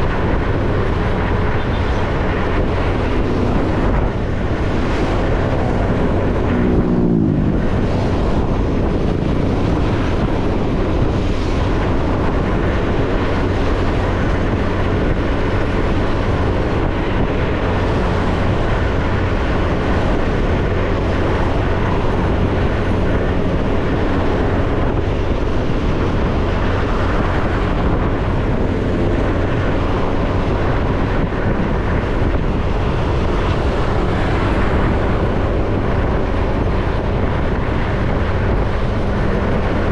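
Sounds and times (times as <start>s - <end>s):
passing vehicle engine: 0.0s - 39.9s
small motorcycle engine running: 0.0s - 39.9s
wind and road noise: 0.0s - 39.9s.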